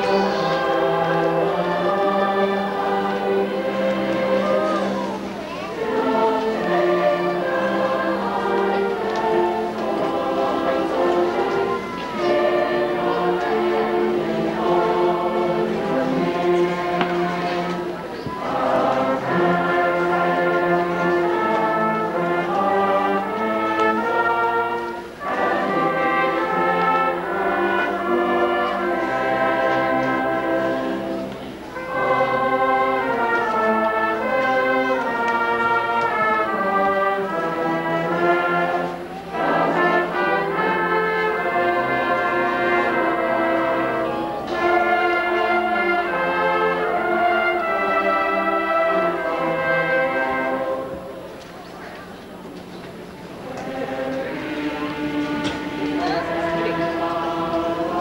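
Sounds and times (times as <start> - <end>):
choir singing held chords: 0.0 - 51.8, 52.6 - 58.0
instrumental accompaniment: 0.0 - 58.0.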